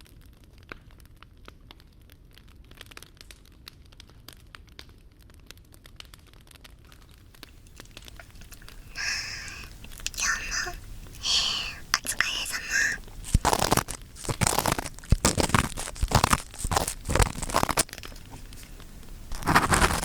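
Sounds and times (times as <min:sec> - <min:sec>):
fire pops and snaps: 0:00.1 - 0:10.4, 0:11.9 - 0:20.0
wood fire crackling: 0:00.5 - 0:20.0.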